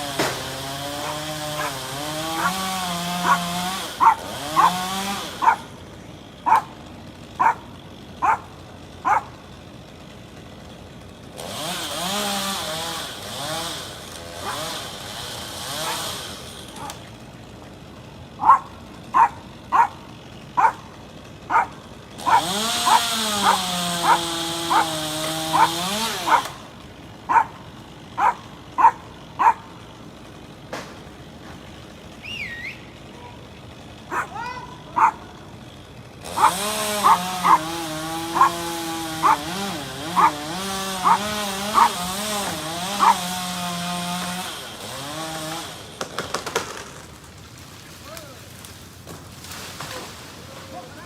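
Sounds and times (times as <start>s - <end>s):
chainsaw running at high throttle: 0.0s - 49.3s.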